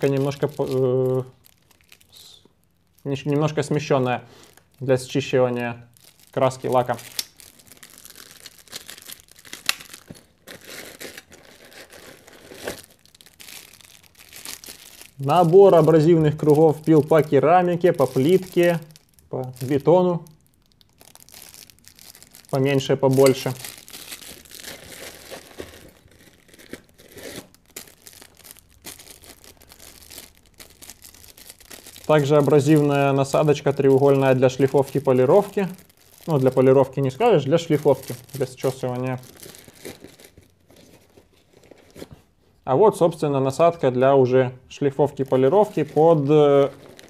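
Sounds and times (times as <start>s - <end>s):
packaging crinkling and rustling: 0.0s - 42.6s, 45.0s - 47.0s.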